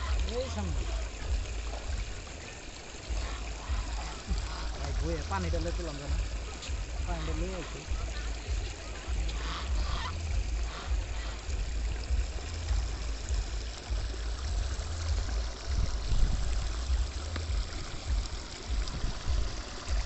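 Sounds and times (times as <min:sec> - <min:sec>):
water trickling over mud: 0:00.0 - 0:20.0
low rumble: 0:03.1 - 0:07.2, 0:07.9 - 0:20.0.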